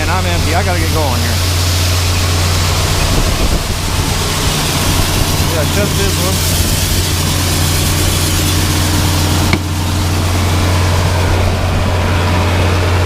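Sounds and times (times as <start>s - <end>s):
farm machinery low hum: 0.0s - 13.0s
broad hiss: 0.2s - 11.3s.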